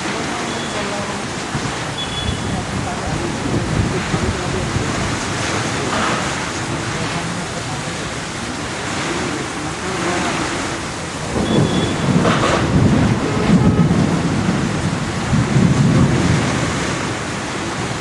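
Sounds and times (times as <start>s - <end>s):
steady rain: 0.0s - 18.0s
thunder rumbling: 0.0s - 18.0s.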